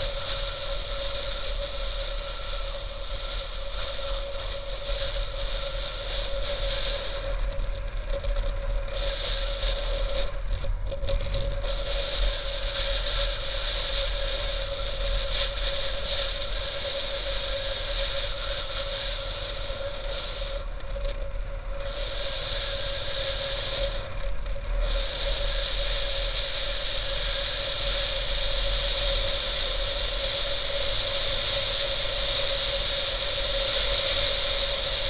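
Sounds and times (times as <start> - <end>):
road rumble: 0.0 - 35.0
wind noise: 0.0 - 35.0.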